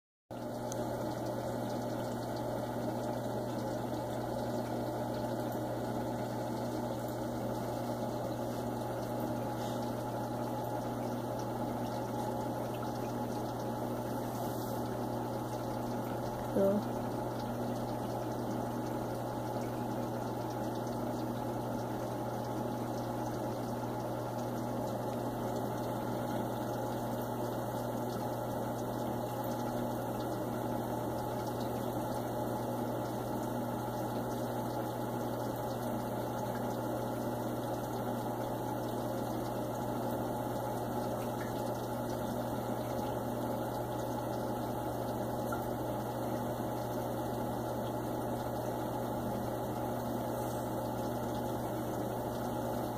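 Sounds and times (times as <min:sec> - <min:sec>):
aquarium pump humming: 0:00.3 - 0:52.9.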